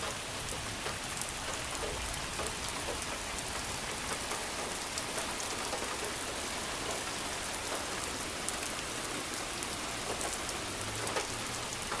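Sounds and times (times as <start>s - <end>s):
rain falling: 0.0s - 12.0s
raindrops ticking: 0.0s - 12.0s.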